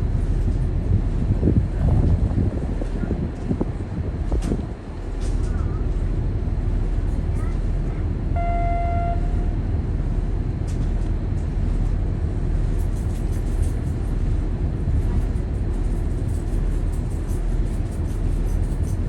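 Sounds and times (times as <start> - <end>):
ferry low rumble: 0.0 - 19.0.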